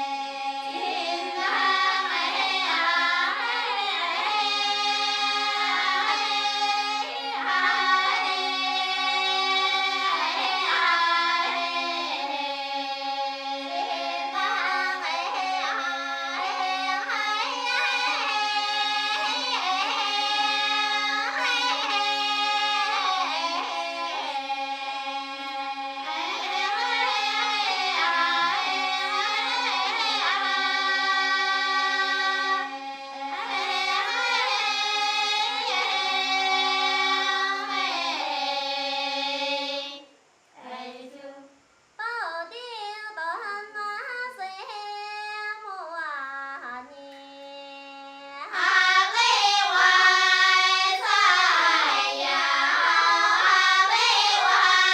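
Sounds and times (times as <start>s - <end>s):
women singing polyphonic choir: 0.0s - 54.9s.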